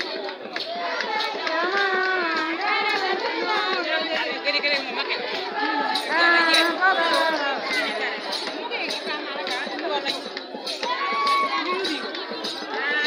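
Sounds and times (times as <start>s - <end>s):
voices singing a dance song: 0.0s - 13.0s.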